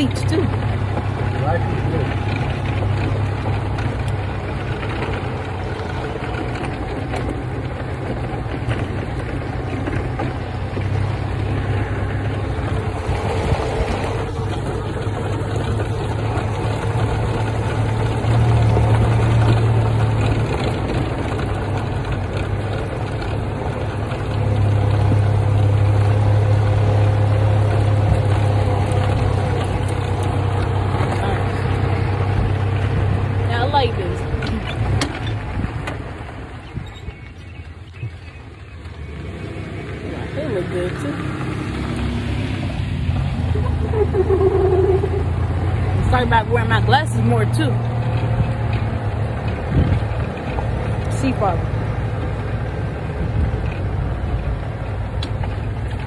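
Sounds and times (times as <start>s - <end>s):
golf cart engine humming: 0.0s - 56.0s.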